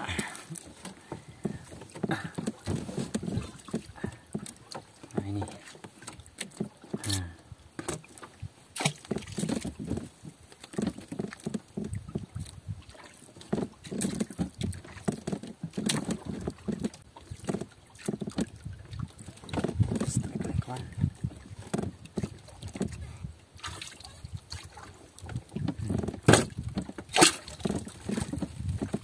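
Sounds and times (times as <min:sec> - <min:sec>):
knocks and rustles on boat: 0:00.0 - 0:29.0.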